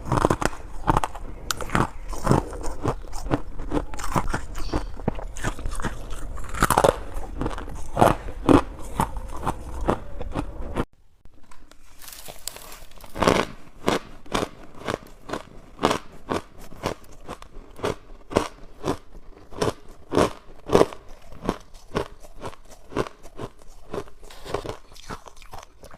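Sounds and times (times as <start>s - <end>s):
chewing crunchy ice: 0.0s - 10.9s, 11.8s - 25.9s.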